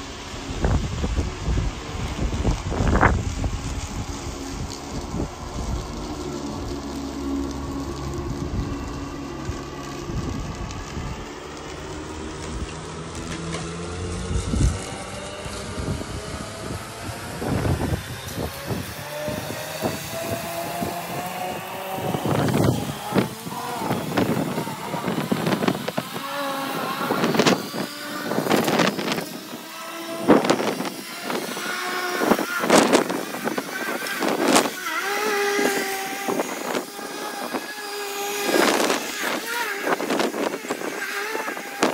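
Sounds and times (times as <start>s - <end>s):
lawn mower running: 0.0s - 41.9s.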